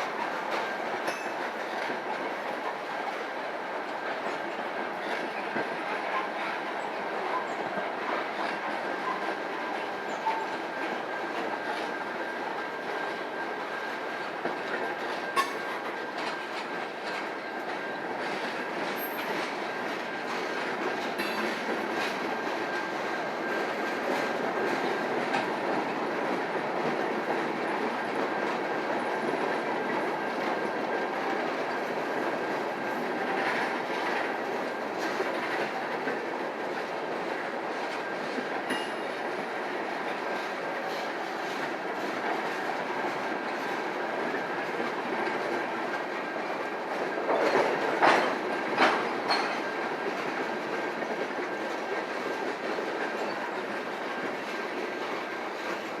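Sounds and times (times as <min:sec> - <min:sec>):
clicking over rail joints: 0:00.0 - 0:56.0
train wheels rumbling on rails: 0:00.0 - 0:56.0.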